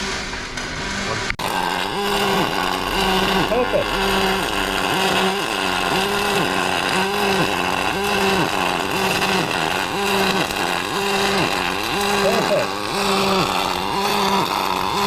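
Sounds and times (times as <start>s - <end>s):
welding arc crackling and buzzing: 0.0s - 15.0s.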